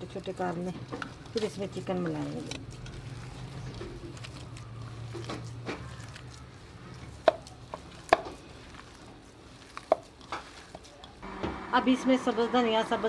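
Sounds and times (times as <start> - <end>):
potatoes squished by hand: 0.0 - 11.2.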